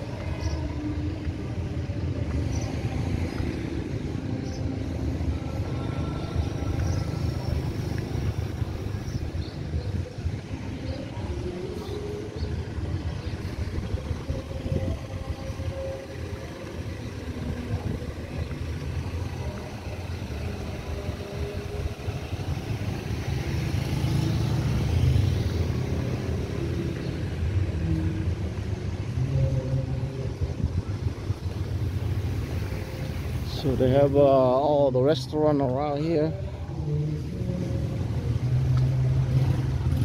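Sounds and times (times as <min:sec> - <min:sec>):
traffic rumbling: 0:00.0 - 0:40.0.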